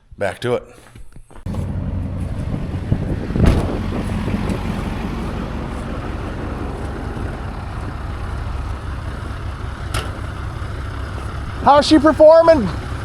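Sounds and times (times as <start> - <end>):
engine running: 1.5 - 13.0.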